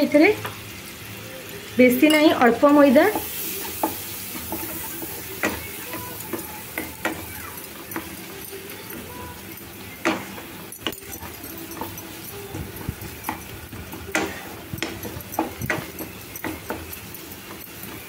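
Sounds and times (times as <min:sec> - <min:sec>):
butter sizzling in a pan: 0:00.0 - 0:18.0.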